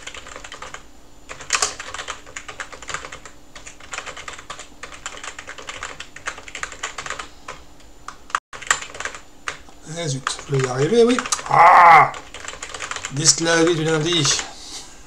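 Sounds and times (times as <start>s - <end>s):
typing on computer keyboard: 0.0s - 9.6s, 10.2s - 11.5s, 12.2s - 14.5s.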